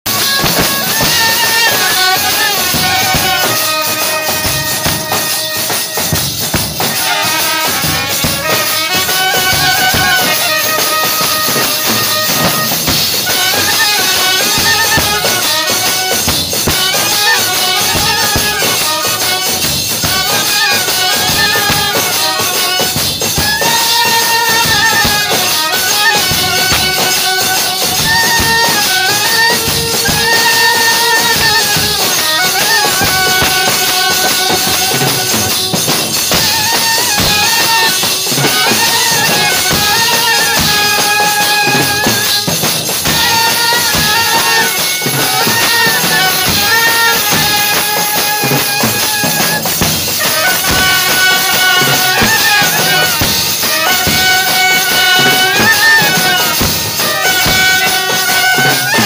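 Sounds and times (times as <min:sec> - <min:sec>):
drum kit: 0:00.0 - 0:59.0
clarinet and trumpets melody: 0:00.1 - 0:59.0
jingling cymbal: 0:00.1 - 0:59.0.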